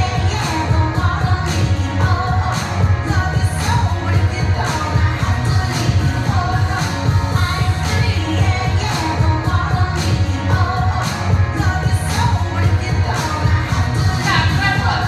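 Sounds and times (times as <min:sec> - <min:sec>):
pop song with heavy bass: 0:00.0 - 0:15.0.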